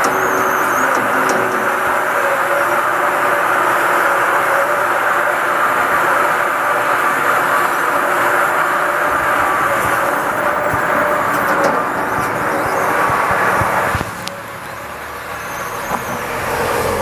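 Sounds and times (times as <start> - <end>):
faint steady tones: 0.0 - 17.0
inclined lift mechanical hum: 0.0 - 17.0.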